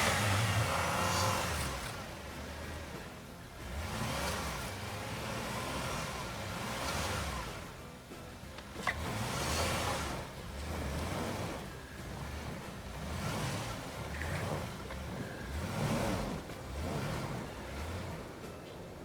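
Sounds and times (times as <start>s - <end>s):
engine revving in surges: 0.0s - 19.0s.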